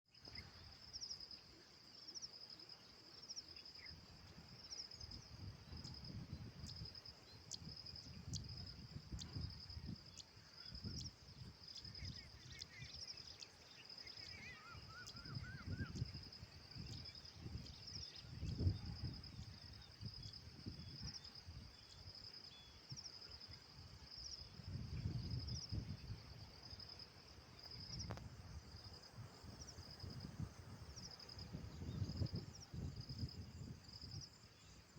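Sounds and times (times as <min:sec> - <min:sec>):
insects chirring: 0:00.1 - 0:34.9.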